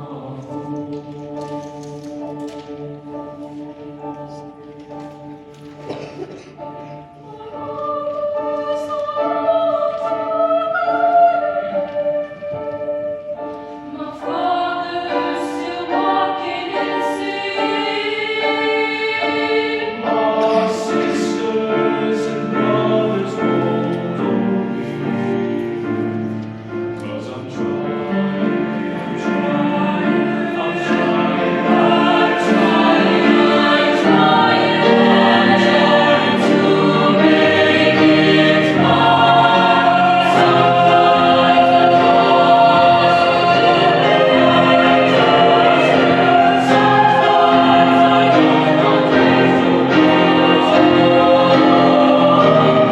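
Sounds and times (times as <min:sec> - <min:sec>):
choir singing in parts: 0:00.0 - 0:52.9.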